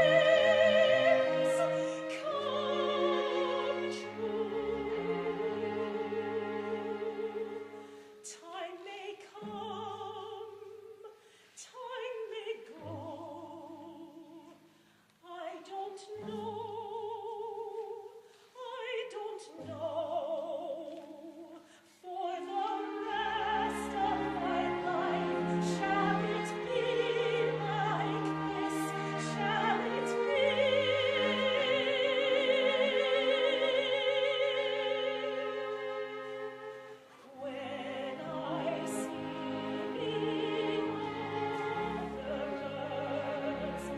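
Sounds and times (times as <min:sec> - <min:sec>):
operatic singing: 0:00.0 - 0:14.6, 0:15.2 - 0:43.9.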